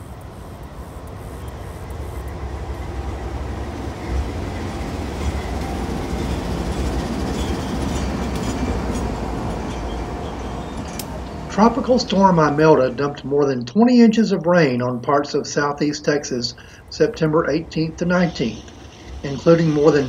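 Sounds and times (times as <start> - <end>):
diesel locomotive engine rumble: 0.0 - 20.0
train wheels on rails: 0.0 - 20.0.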